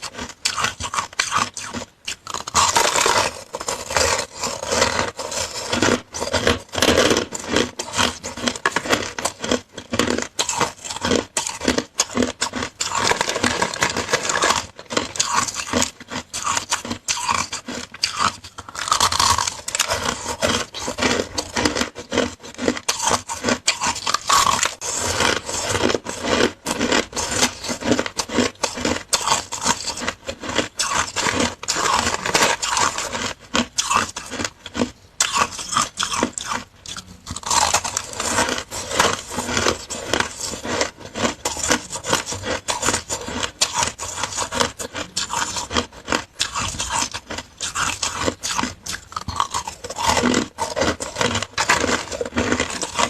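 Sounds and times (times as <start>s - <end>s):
chewing and crunching shaved ice: 0.0s - 53.0s.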